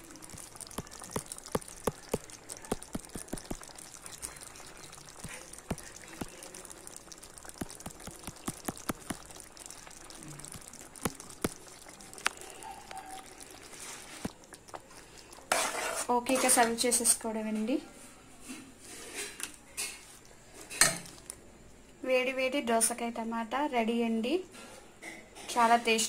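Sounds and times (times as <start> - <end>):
curry bubbling and popping: 0.0 - 17.8, 18.8 - 22.0.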